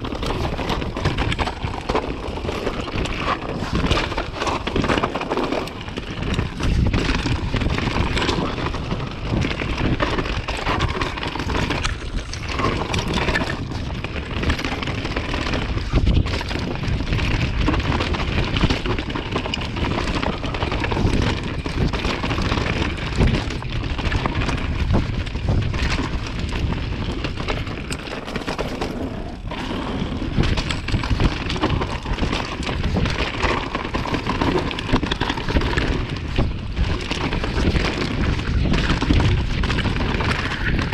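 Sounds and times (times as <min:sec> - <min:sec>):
bike tyres clattering over gravel: 0:00.0 - 0:40.9
wind buffeting microphone: 0:00.0 - 0:40.9.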